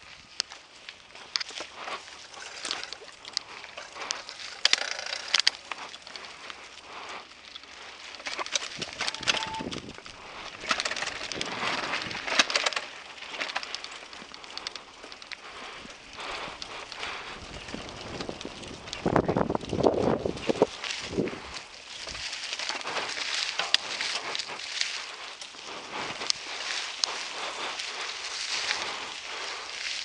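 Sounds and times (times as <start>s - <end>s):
bike rattling: 0.0s - 30.0s
bike tyres crunching over leaves: 0.0s - 30.0s.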